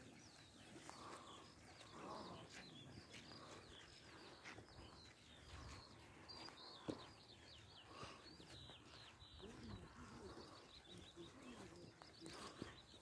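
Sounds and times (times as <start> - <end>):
faint distant voices: 0.0 - 13.0
small birds chirping: 0.0 - 13.0.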